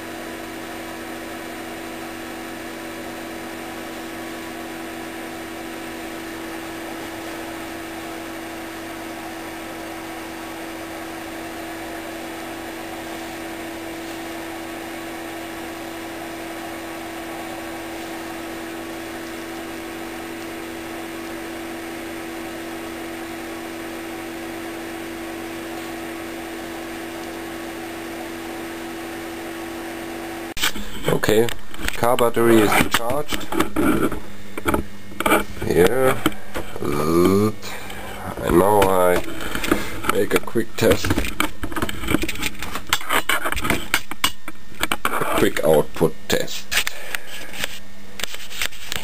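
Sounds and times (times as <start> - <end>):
electrical hum: 0.0 - 49.0.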